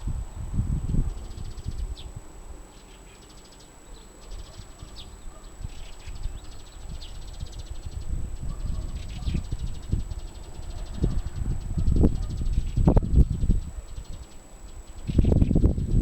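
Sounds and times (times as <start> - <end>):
wind buffeting microphone: 0.0 - 2.7, 4.2 - 16.0.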